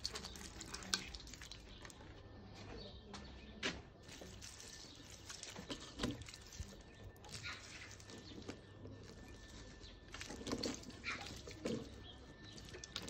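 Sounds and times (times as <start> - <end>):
water pouring from watering can: 0.0 - 2.0, 4.0 - 13.0.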